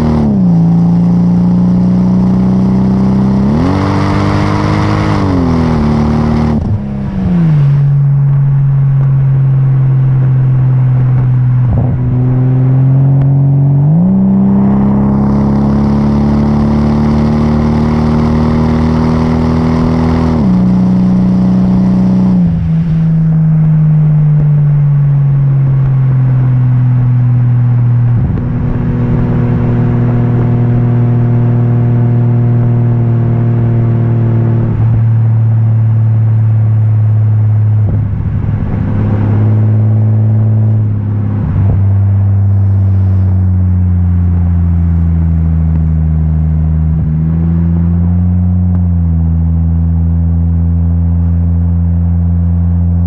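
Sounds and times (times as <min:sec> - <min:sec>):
car exhaust drone: 0:00.0 - 0:53.0.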